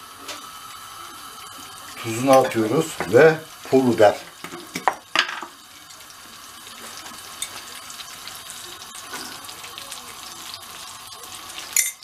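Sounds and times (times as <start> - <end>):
tomatoes sizzling in a frying pan: 0.0 - 12.0.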